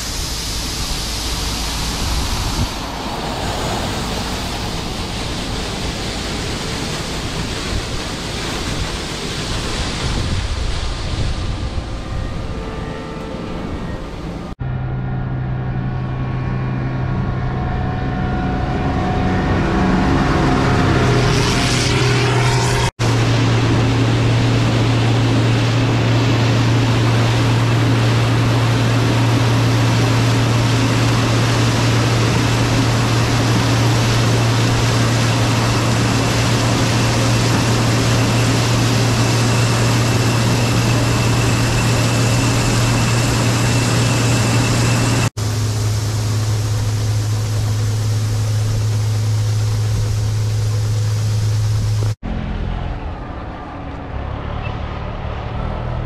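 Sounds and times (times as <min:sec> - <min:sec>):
combine harvester engine: 0:00.0 - 0:56.0.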